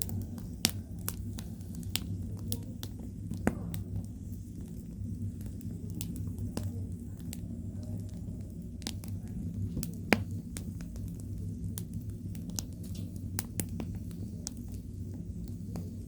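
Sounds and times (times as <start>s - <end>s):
fire low rumble: 0.0s - 16.0s
meat crackling and popping: 0.0s - 16.0s.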